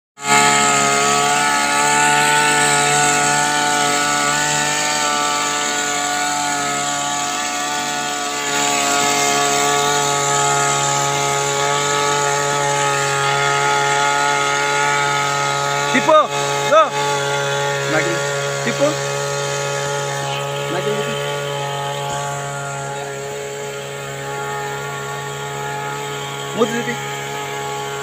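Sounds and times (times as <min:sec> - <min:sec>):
small engine running: 0:00.2 - 0:28.0.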